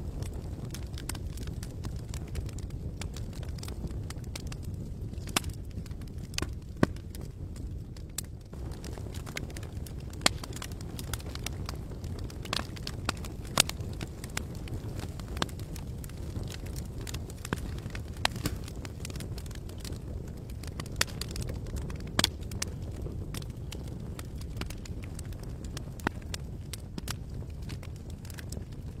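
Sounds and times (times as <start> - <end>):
campfire crackling and popping: 0.0 - 29.0
low rush of fire: 0.0 - 29.0.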